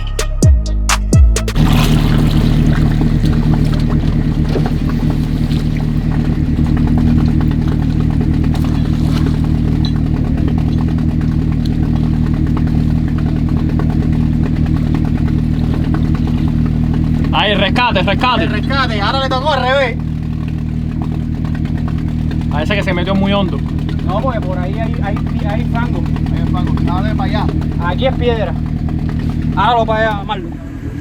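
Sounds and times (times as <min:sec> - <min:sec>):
car engine running: 0:00.0 - 0:31.0
light clatter: 0:03.0 - 0:30.2.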